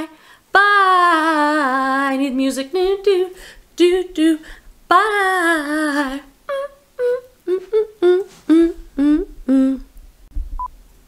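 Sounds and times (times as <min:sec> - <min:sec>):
woman singing wordless tune: 0:00.0 - 0:10.0.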